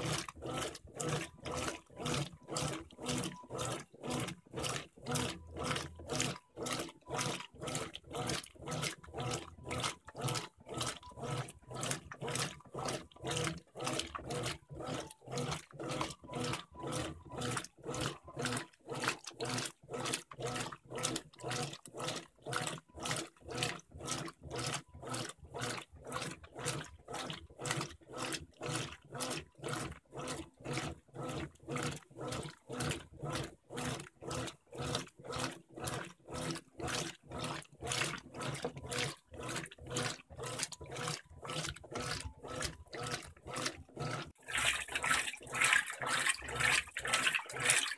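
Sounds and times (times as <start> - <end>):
washing machine agitator churning: 0.0 - 47.9.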